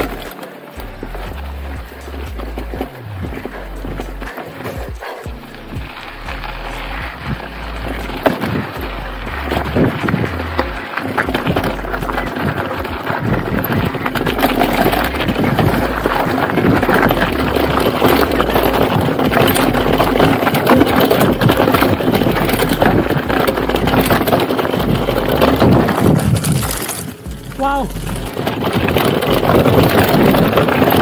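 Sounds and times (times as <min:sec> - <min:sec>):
bike rattling over bumps: 0:00.0 - 0:31.0
tyres crunching over gravel: 0:00.0 - 0:31.0
wind buffeting microphone: 0:01.3 - 0:31.0.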